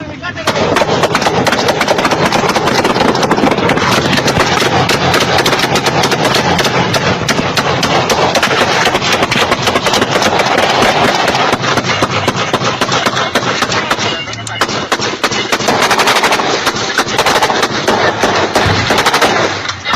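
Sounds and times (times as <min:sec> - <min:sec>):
barrage of gunfire: 0:00.4 - 0:19.9.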